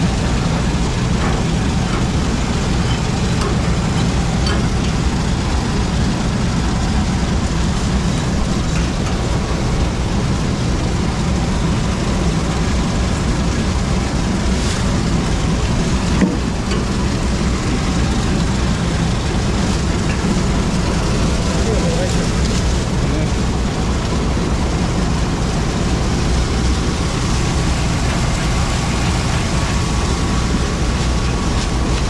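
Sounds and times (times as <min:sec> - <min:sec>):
combine harvester running: 0:00.0 - 0:32.0.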